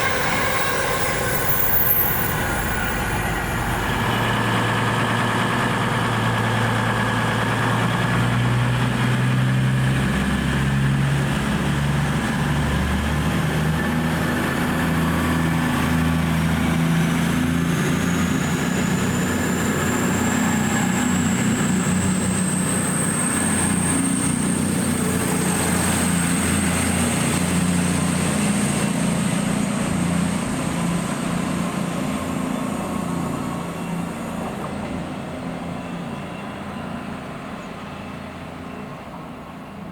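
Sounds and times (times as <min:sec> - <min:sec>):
diesel train engine: 0:00.0 - 0:39.9.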